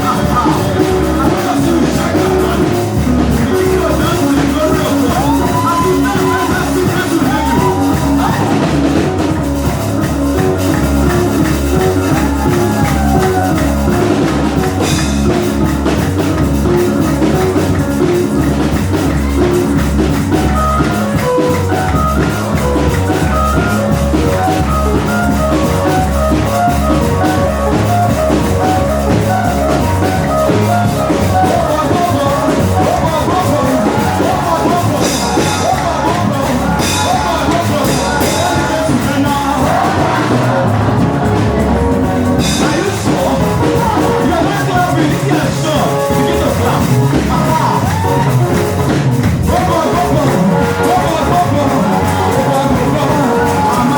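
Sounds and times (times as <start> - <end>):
person singing: 0.0 - 9.5, 10.4 - 16.0, 16.6 - 53.9
band with drums and guitar: 0.0 - 53.9.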